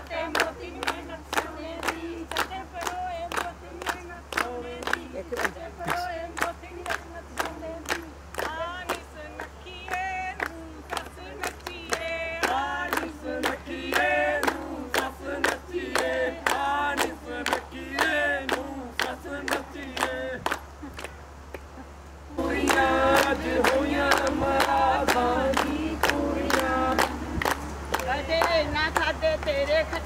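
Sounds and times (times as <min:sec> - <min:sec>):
group of voices singing and chanting: 0:00.0 - 0:20.7, 0:22.3 - 0:30.0.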